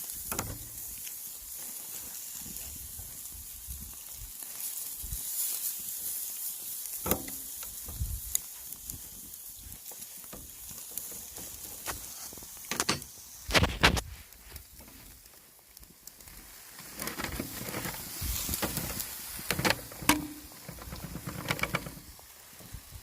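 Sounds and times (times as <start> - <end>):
meat sizzling on a grill: 0.0 - 23.0.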